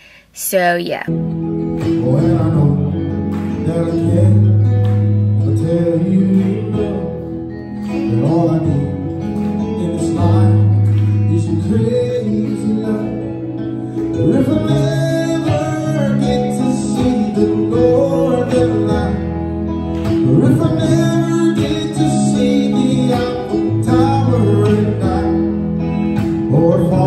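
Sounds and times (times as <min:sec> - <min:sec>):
live band with keyboard and guitar: 0:01.1 - 0:27.0
man singing: 0:01.8 - 0:27.0.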